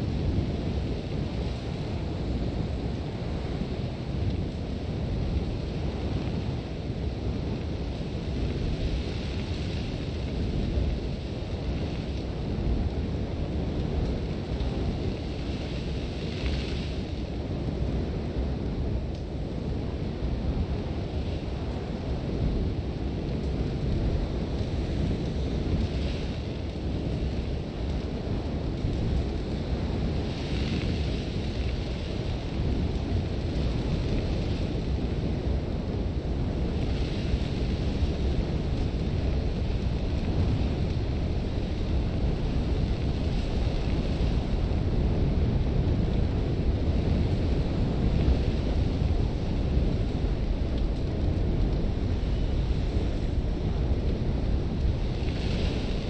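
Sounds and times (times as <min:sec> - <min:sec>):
strong wind rumbling: 0:00.0 - 0:56.0.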